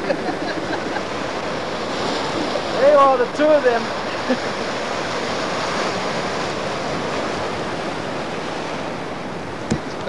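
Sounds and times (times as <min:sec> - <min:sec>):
ocean surf on rocky shore: 0:00.0 - 0:10.0.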